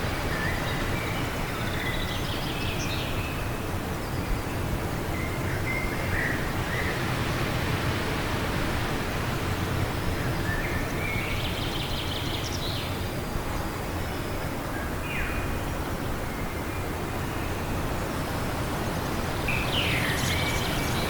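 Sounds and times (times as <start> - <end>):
steady wind: 0.0 - 21.0.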